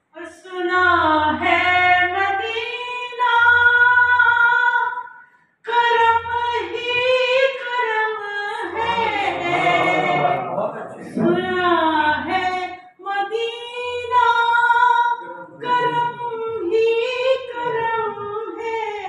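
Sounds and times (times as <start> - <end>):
woman singing unaccompanied: 0.1 - 5.1, 5.7 - 10.4, 11.2 - 19.0.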